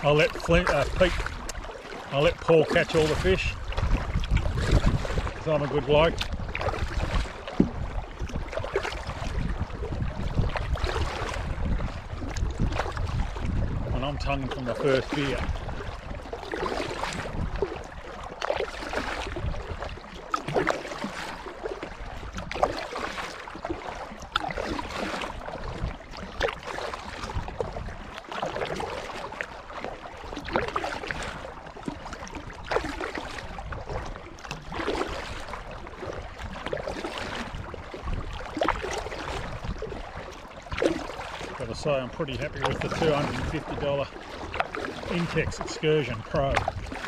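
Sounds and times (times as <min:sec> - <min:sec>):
kayak paddle splashing: 0:00.0 - 0:47.0.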